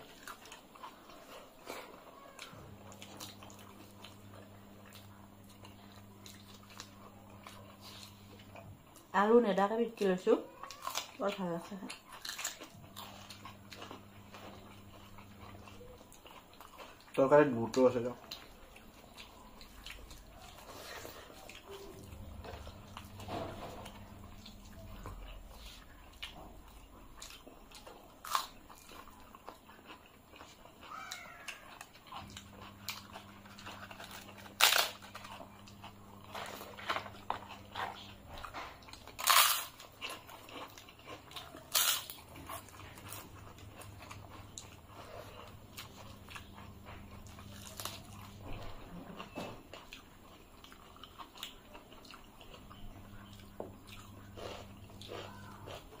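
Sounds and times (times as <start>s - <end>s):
wet chewing and smacking: 0.0s - 56.0s
crunching of fried wafer bites: 10.5s - 56.0s.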